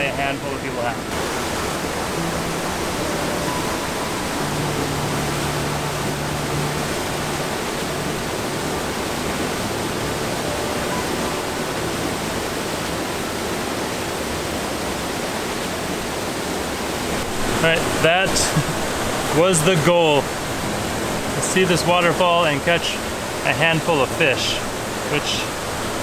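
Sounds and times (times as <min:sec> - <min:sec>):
waterfall rushing over rocks: 0:00.0 - 0:26.0.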